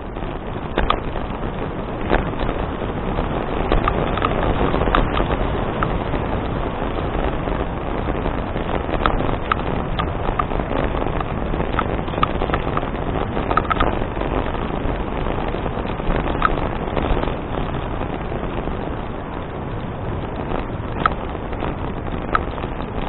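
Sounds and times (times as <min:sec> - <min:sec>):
bicycle tyre noise: 0:00.0 - 0:23.0
wind rushing: 0:00.0 - 0:23.0.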